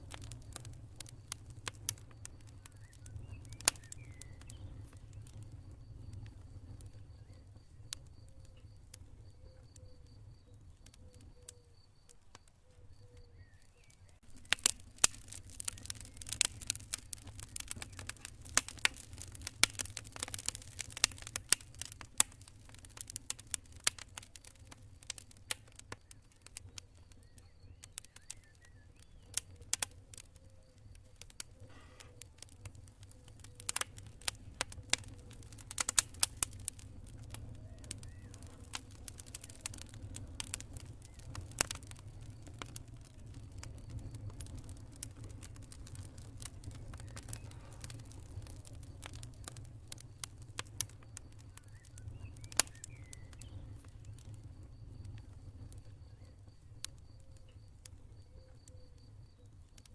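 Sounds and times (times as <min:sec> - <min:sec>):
campfire crackling: 0:00.0 - 0:59.9
crickets chirping: 0:00.1 - 0:21.1, 0:22.3 - 0:59.9.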